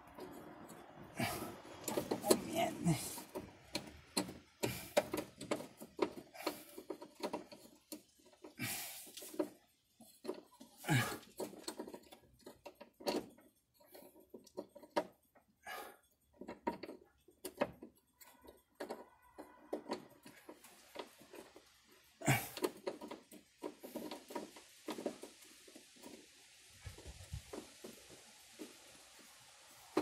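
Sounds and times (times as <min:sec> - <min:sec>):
hands working metal parts: 0:00.0 - 0:30.0.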